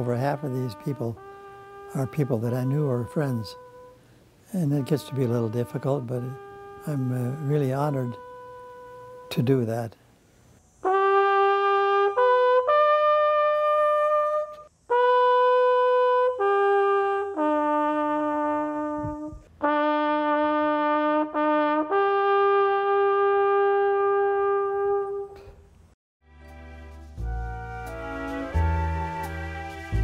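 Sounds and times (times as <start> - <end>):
solo trumpet melody: 0.0 - 10.0, 10.8 - 25.6, 26.4 - 30.0.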